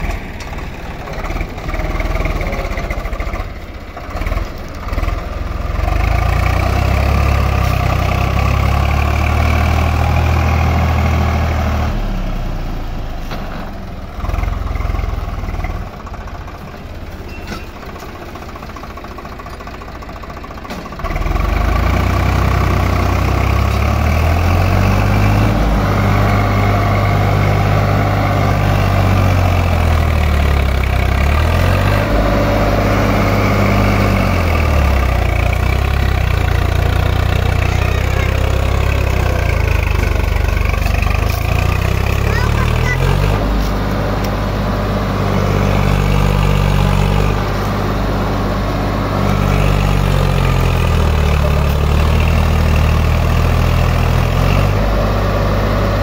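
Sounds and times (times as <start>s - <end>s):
tractor diesel engine revving: 0.0s - 56.0s.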